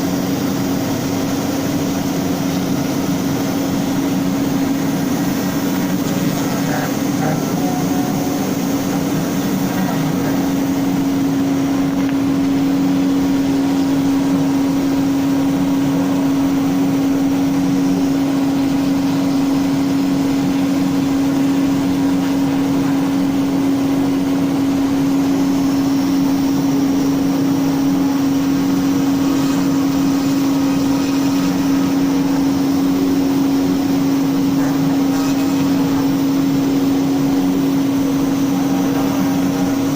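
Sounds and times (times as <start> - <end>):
router spindle humming: 0.0 - 39.9
router bit cutting wood: 1.1 - 39.9.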